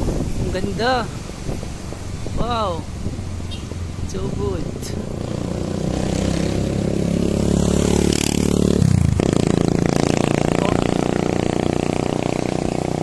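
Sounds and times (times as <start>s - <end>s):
motorcycle engine running: 1.6s - 13.0s.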